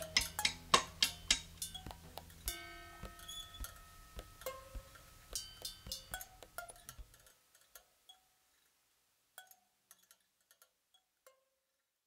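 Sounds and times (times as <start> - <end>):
faint ticks and tinkling pings: 0.0 - 8.7, 9.4 - 11.6.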